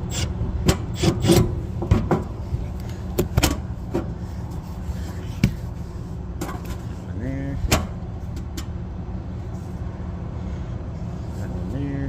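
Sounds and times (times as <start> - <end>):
condensing unit humming: 0.0 - 12.0.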